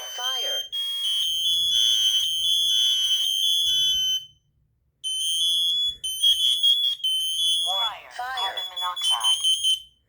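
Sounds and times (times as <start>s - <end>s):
smoke alarms beeping: 0.0s - 10.0s.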